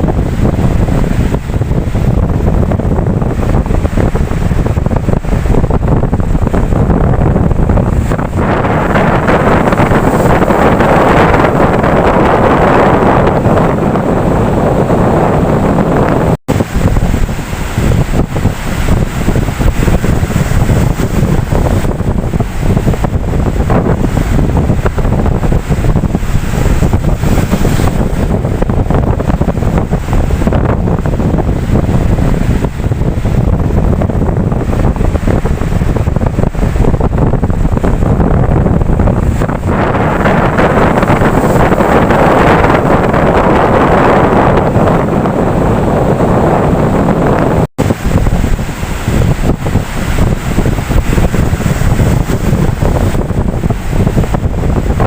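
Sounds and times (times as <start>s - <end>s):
ocean waves washing: 0.0s - 55.0s
wind buffeting microphone: 0.0s - 55.0s.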